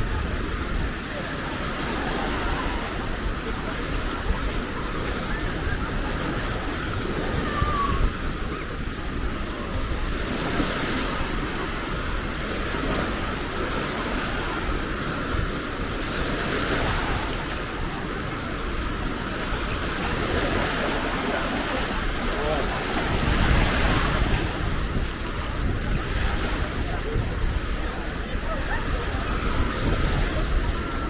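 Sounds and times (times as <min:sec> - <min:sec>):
small sea waves breaking: 0:00.0 - 0:31.0
wind rumbling on microphone: 0:00.0 - 0:31.0.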